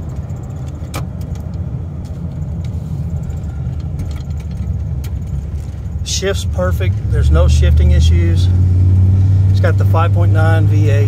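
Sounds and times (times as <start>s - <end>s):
truck engine drone from inside cab: 0.0s - 11.0s.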